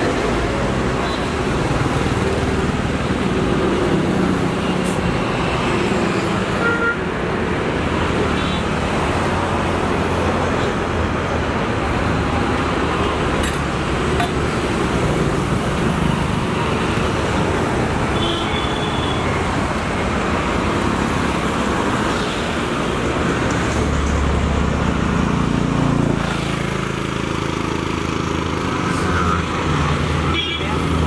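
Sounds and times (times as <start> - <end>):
roadside traffic noise: 0.0 - 31.0.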